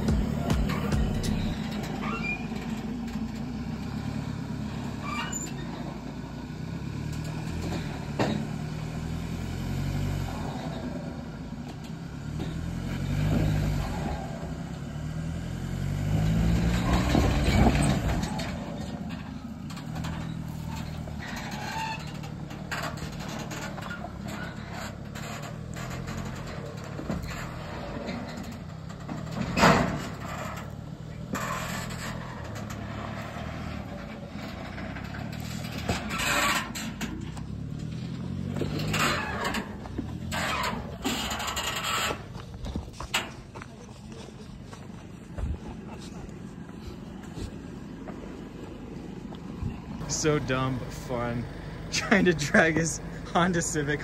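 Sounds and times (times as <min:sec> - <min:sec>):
diesel engine under load: 0:00.0 - 0:54.0
trailer clunk: 0:00.0 - 0:54.0.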